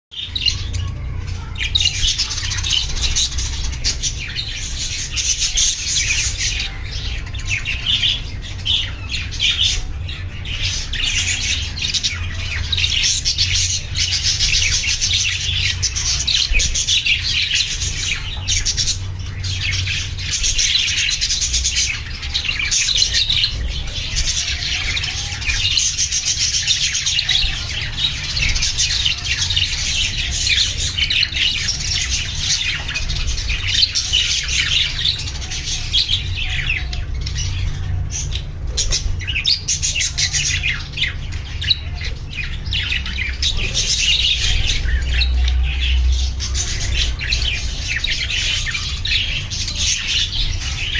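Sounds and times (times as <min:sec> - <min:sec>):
budgerigars chirping: 0:00.1 - 0:50.9.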